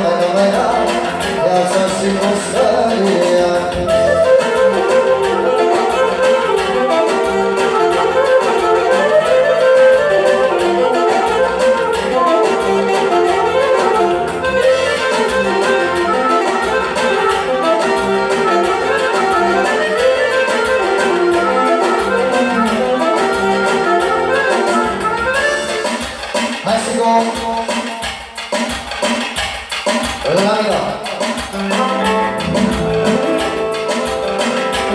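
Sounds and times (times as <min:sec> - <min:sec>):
saxophone melody: 0:00.0 - 0:26.2, 0:31.5 - 0:34.9
accordion melody: 0:00.0 - 0:26.5, 0:31.5 - 0:34.9
steady beat: 0:00.0 - 0:34.9.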